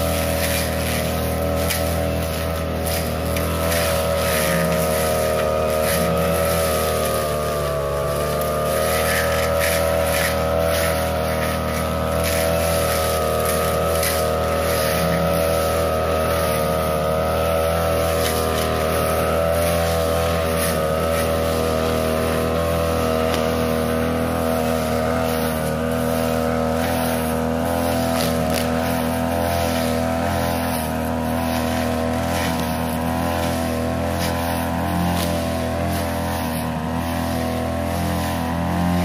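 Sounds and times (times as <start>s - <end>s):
blade cutting grass: 0.0s - 39.0s
brush cutter engine running: 0.0s - 39.0s.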